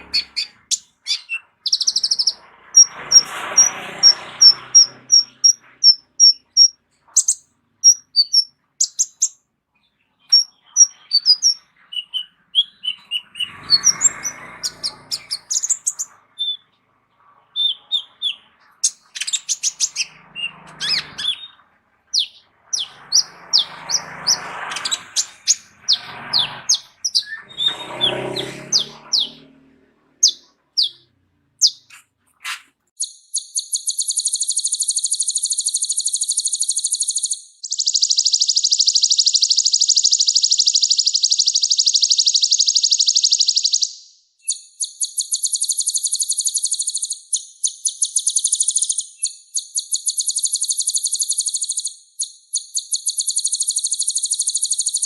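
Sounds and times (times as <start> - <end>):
sunbird singing: 0.0 - 32.1, 33.0 - 55.0
harsh rasping bird calls: 0.0 - 55.0.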